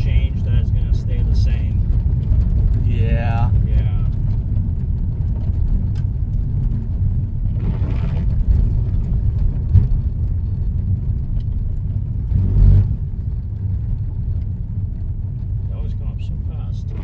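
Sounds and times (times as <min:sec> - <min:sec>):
road and engine noise in car: 0:00.0 - 0:17.0.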